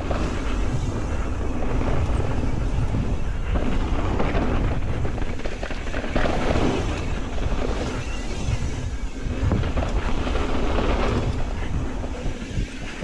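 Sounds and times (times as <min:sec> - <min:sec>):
bike tyres crackling on dirt: 0:00.0 - 0:13.0
wind buffeting microphone: 0:00.0 - 0:13.0.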